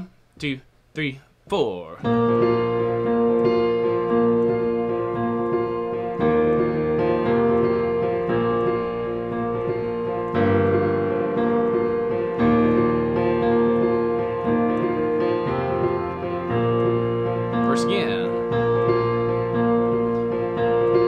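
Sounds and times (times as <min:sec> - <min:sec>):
keyboard piano rhythm: 0:02.0 - 0:21.0.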